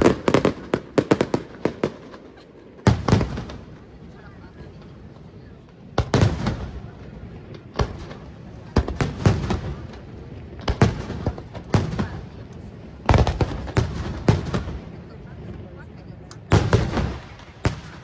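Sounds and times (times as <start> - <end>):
firework booms: 0.0 - 15.6, 16.2 - 18.0.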